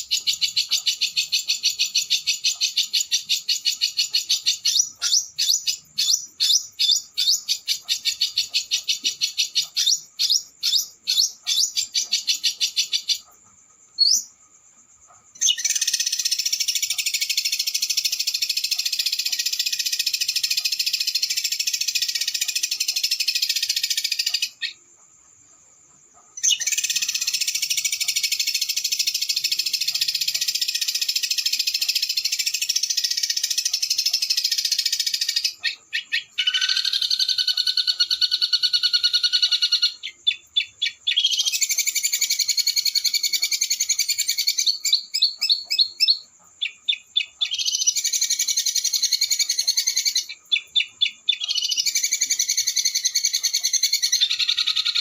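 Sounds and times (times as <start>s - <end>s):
songbird trilling song: 0.0s - 55.0s.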